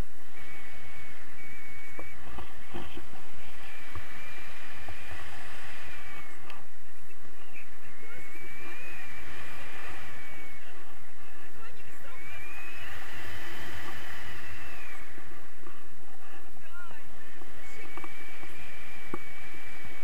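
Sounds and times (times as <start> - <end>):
wind rumble on microphone: 0.0 - 20.0
thin high whistle: 0.2 - 6.6, 7.4 - 15.6, 16.7 - 20.0.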